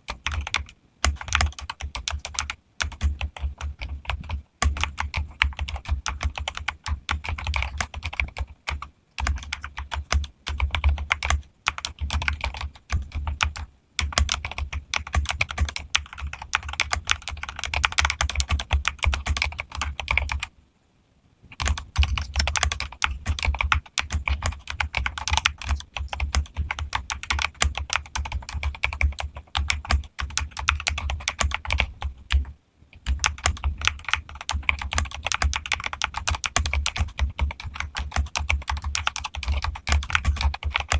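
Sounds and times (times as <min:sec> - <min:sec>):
mechanical keyboard typing: 0:00.1 - 0:20.5, 0:21.5 - 0:40.9.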